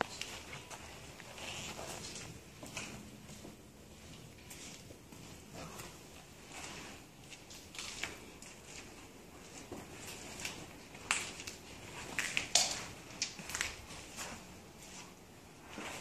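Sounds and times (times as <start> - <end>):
footsteps on concrete floor: 0.0 - 16.0.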